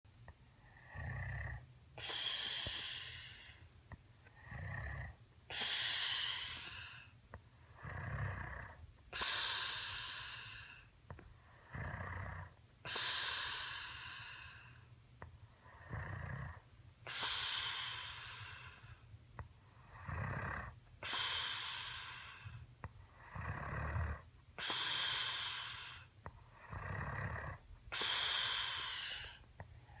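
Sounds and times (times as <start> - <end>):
person snoring: 0.6 - 3.6, 4.3 - 7.1, 7.7 - 10.8, 11.6 - 14.7, 15.7 - 18.8, 19.8 - 22.6, 23.2 - 29.4.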